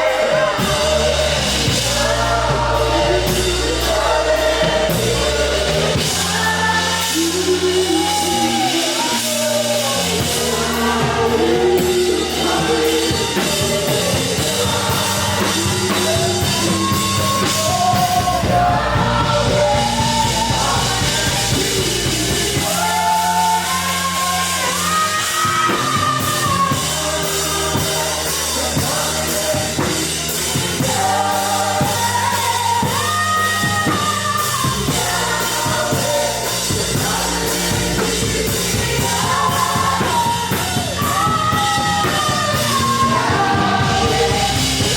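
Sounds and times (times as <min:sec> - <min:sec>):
band with drums and bass: 0:00.0 - 0:44.9
voices singing: 0:00.0 - 0:44.9.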